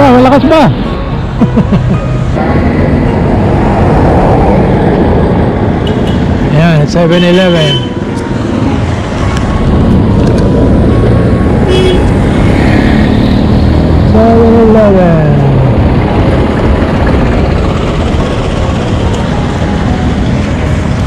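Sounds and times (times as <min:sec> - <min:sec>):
cars passing by: 0:00.0 - 0:21.0.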